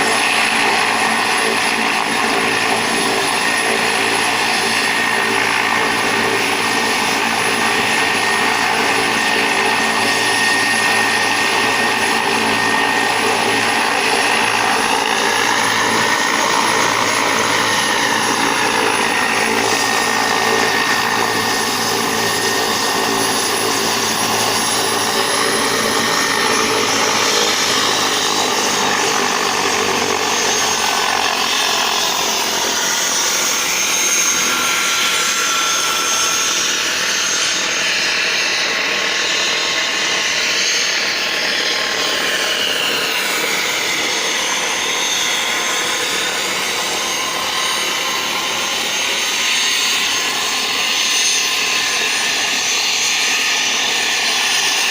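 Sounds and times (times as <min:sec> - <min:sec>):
helicopter turbine whine and rotor: 0:00.0 - 0:54.9.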